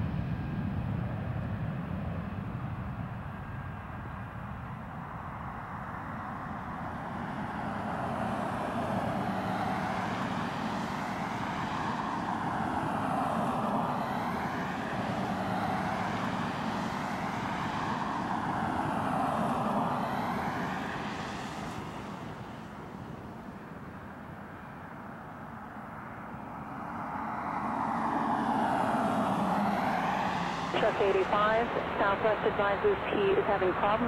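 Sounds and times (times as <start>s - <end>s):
jet engine roar at takeoff: 0.0s - 34.0s.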